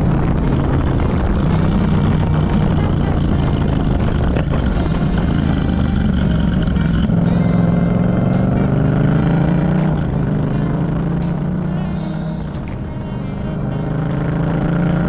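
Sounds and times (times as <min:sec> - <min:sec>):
background music: 0:00.0 - 0:15.0
motorcycle engine running: 0:00.0 - 0:15.0.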